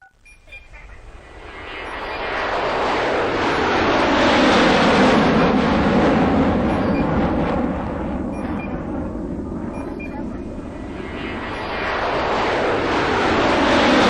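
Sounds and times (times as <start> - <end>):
aircraft passing overhead: 0.5 - 14.0.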